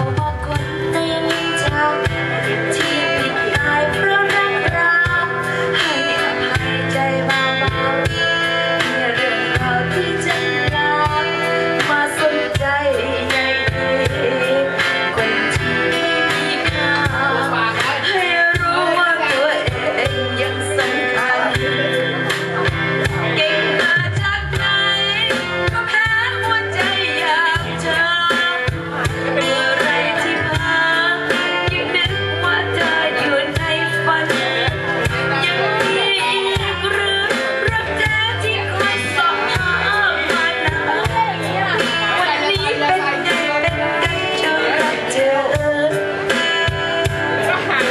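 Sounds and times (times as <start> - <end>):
guitar: 0.0 - 47.9
person singing: 0.0 - 47.9.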